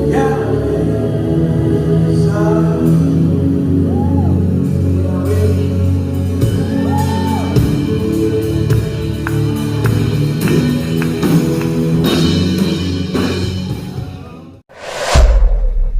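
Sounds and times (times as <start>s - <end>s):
instrumental worship band music: 0.0s - 14.6s.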